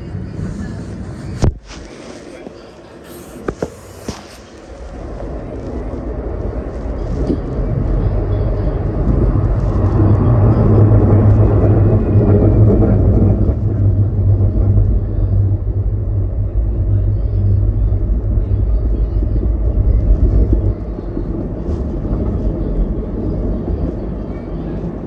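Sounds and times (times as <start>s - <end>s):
light rail train rumbling: 0.0s - 25.0s.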